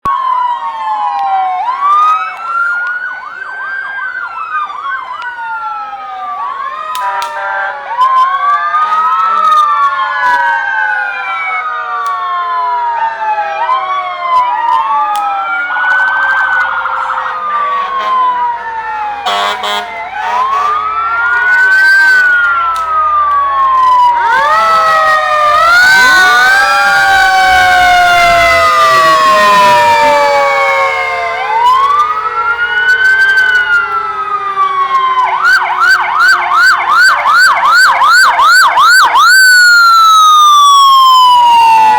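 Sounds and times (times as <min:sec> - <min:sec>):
emergency sirens wailing: 0:00.0 - 0:41.9.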